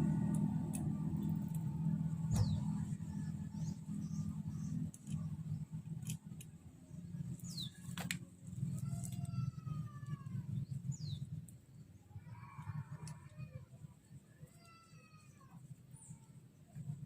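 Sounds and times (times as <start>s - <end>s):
low steady hum: 0.0s - 17.0s
small birds chirping: 2.2s - 17.0s.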